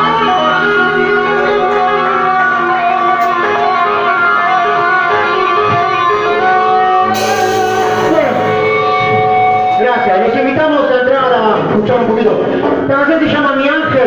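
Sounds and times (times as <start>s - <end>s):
band playing led by guitar: 0.0s - 14.0s.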